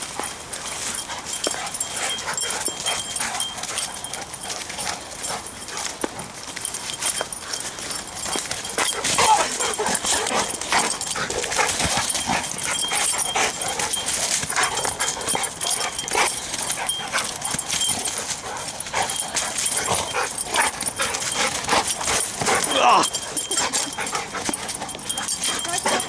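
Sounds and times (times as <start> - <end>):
paws scuffling in wet leaves: 0.0 - 26.0
dogs play-fighting vocal sounds: 0.1 - 26.0.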